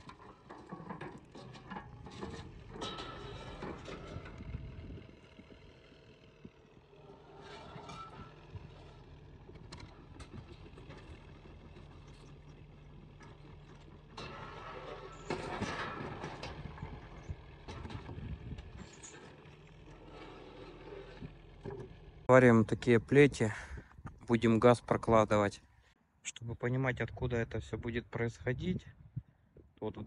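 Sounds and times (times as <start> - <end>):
engine running: 0.0 - 25.2.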